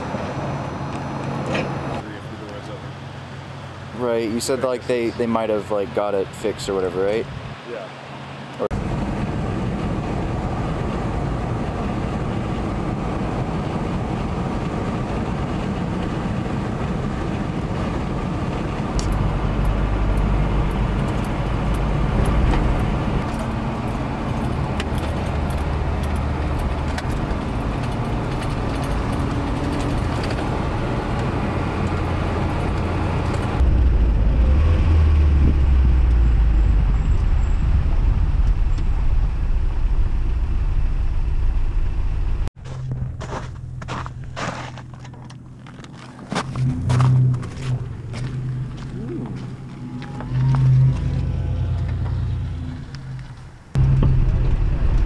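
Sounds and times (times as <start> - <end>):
engine and tyre noise in cab: 0.0 - 55.0.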